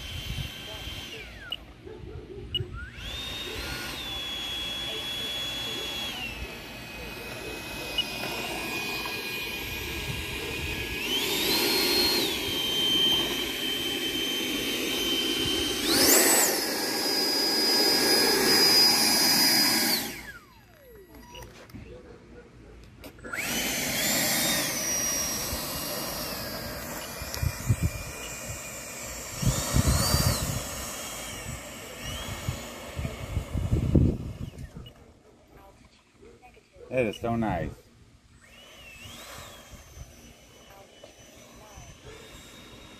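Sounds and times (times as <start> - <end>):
electric ducted fan whining: 0.0 - 22.0, 23.2 - 35.7, 36.9 - 42.9.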